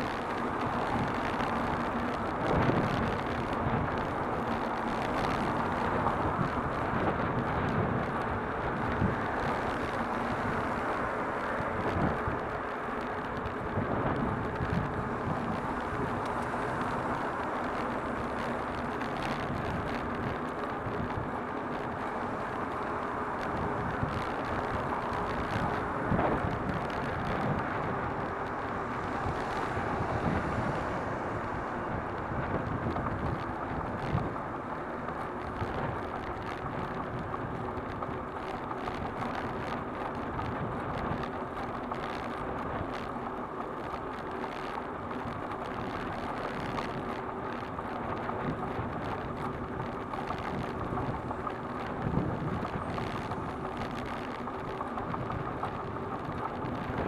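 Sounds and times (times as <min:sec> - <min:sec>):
tyres on asphalt: 0:00.0 - 0:57.0
wind on microphone: 0:00.0 - 0:57.0.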